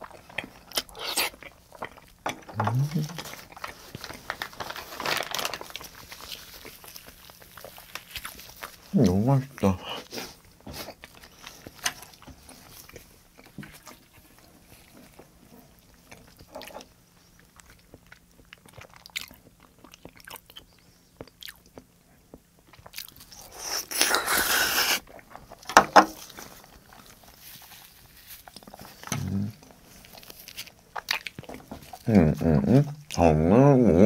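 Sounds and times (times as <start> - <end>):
chewing and eating: 0.0 - 33.4.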